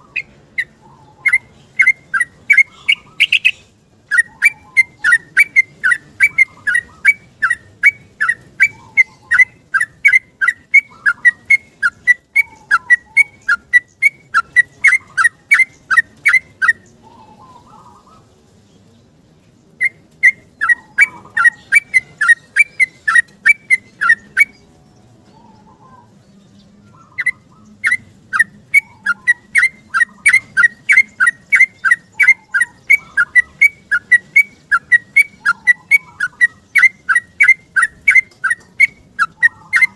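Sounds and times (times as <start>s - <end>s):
bird singing whistled notes: 0.0s - 18.3s, 19.8s - 39.9s.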